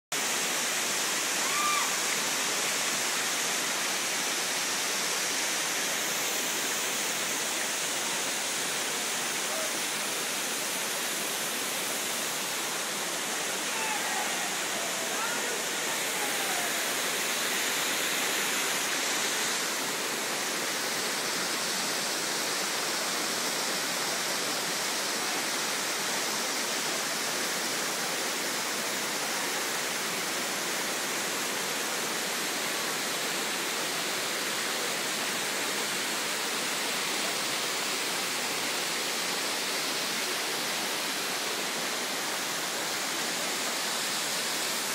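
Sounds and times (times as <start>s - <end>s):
waterfall rushing: 0.2s - 44.9s.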